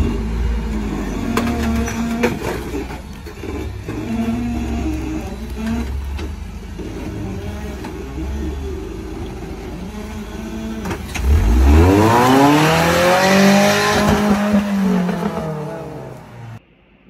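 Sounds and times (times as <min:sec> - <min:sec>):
engine revving hard: 0:00.0 - 0:16.6.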